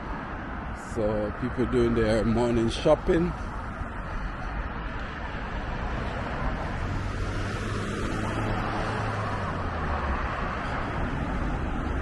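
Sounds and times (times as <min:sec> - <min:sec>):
road traffic: 0:00.0 - 0:12.0
vehicle engine hum: 0:00.0 - 0:12.0.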